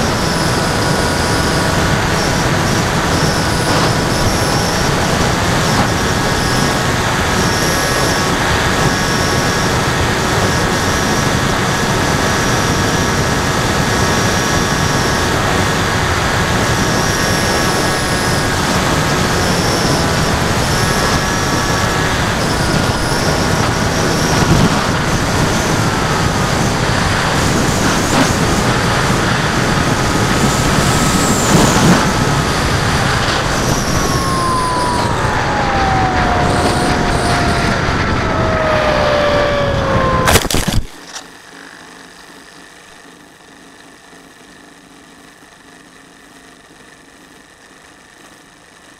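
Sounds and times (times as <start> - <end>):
wind rushing over camera: 0.0 - 41.2
electric motor whine: 0.0 - 48.9.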